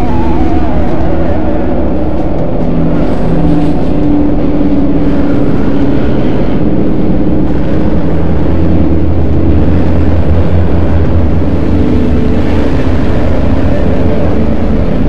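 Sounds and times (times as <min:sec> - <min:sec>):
dense music with heavy bass: 0:00.0 - 0:15.0.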